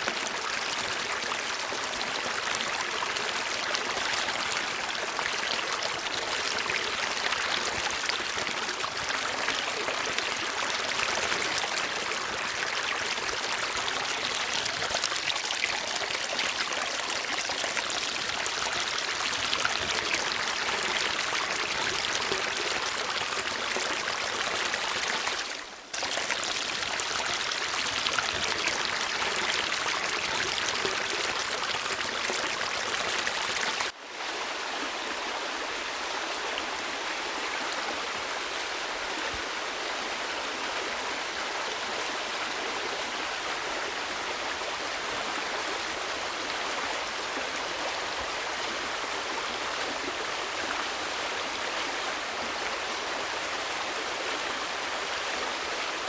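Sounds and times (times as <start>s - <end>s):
water flowing over stones: 0.0s - 56.0s.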